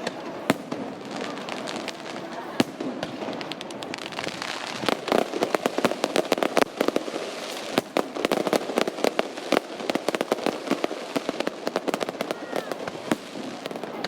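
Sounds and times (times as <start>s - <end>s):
continuous crackling: 0.0s - 14.0s
fireworks cracks and bangs: 0.0s - 14.0s.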